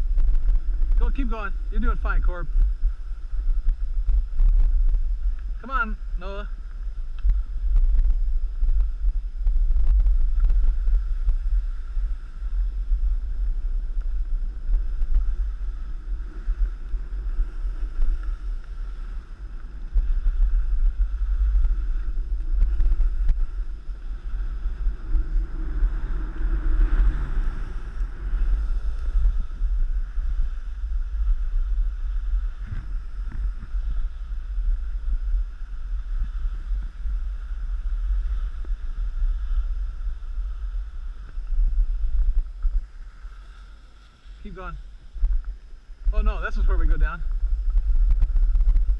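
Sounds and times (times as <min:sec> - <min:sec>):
skis sliding over snow: 0:00.0 - 0:48.9
wind buffeting microphone: 0:00.0 - 0:48.9.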